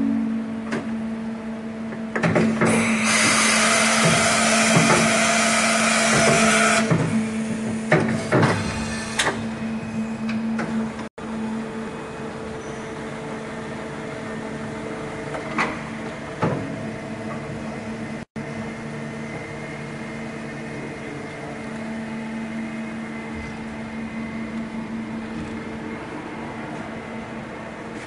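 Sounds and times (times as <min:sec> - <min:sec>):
machining centre humming: 0:00.0 - 0:28.0.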